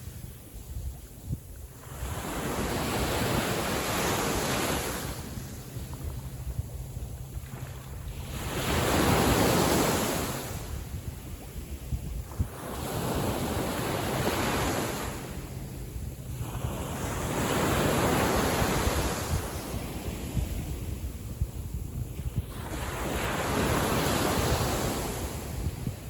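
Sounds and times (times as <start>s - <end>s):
wind rumble on microphone: 0.0s - 26.0s
sea waves breaking: 1.7s - 11.6s, 12.2s - 21.2s, 22.3s - 26.0s.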